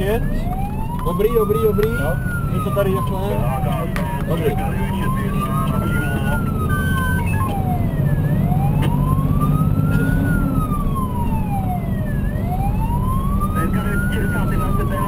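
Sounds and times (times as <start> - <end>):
fire engine siren wailing: 0.0 - 15.0
truck engine and road rumble: 0.0 - 15.0.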